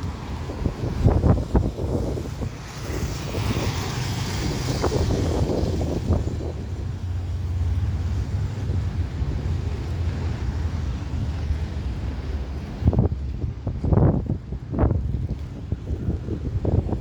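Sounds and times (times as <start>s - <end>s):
wind buffeting microphone: 0.0s - 17.0s
low rumble: 3.4s - 17.0s.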